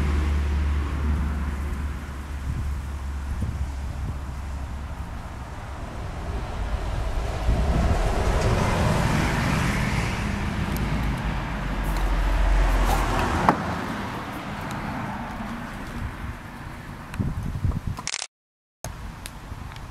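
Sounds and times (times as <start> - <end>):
road vehicle passing by: 0.0 - 17.2.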